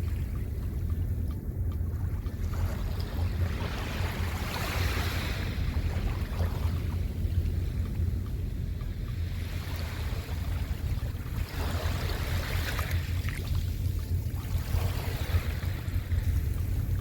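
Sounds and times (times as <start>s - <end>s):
waves washing onto shore: 0.0s - 17.0s
wind rumbling on microphone: 0.0s - 17.0s.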